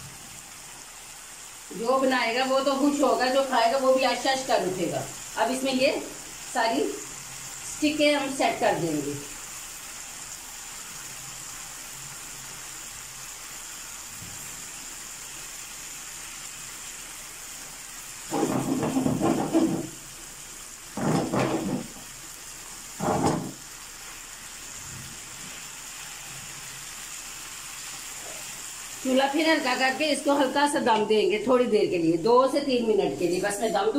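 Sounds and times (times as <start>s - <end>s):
food sizzling in a frying pan: 0.0s - 33.9s.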